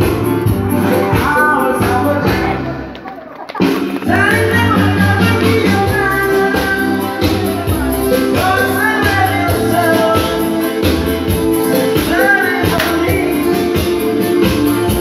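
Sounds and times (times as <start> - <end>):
song with singing over a beat: 0.0 - 15.0.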